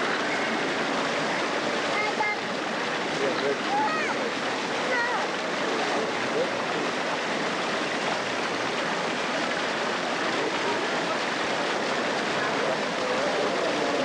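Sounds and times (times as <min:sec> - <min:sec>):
indistinct crowd voices: 0:00.0 - 0:14.0.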